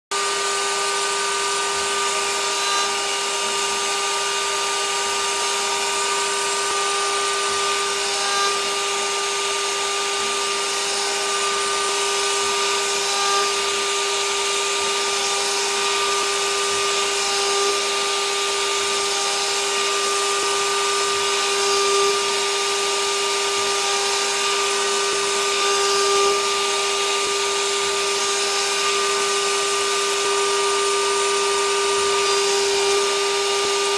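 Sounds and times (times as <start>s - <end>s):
router spindle whining: 0.1s - 33.9s.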